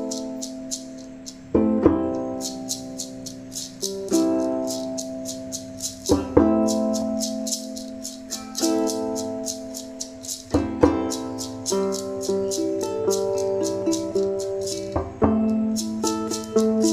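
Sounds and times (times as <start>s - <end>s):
shaker rhythm: 0.0s - 16.9s
ukulele strumming chords: 0.0s - 16.9s.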